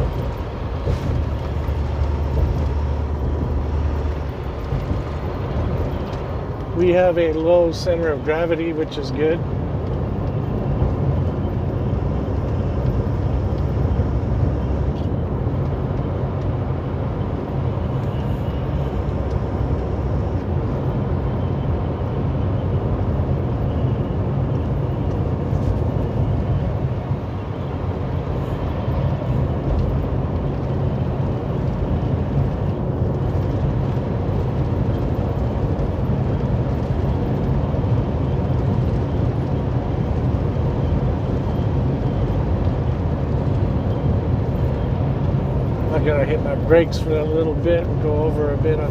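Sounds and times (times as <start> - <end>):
truck diesel engine rumble: 0.0 - 48.9.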